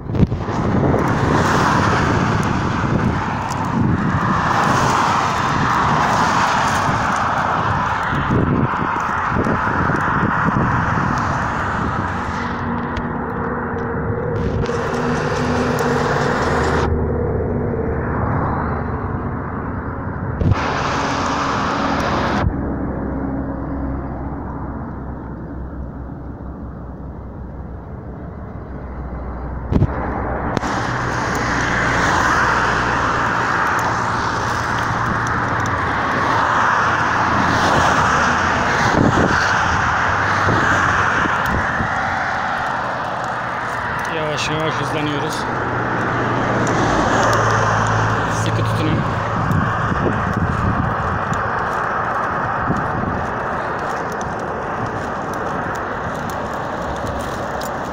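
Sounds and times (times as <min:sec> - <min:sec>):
cars passing: 0:00.0 - 0:57.9
wind rumbling on microphone: 0:00.0 - 0:57.9.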